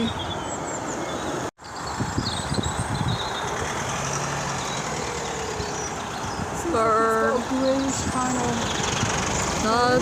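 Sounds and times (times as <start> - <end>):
outdoor background rumble: 0.0 - 10.0.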